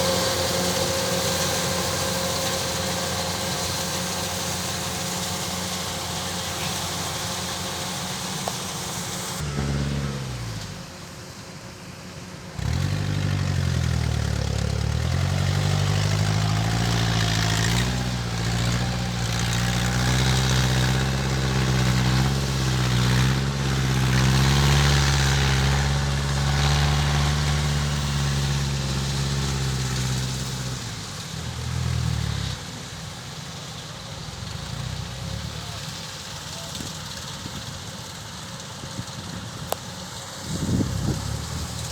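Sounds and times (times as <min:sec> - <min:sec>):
diesel engine running and revving: 0:00.0 - 0:41.9.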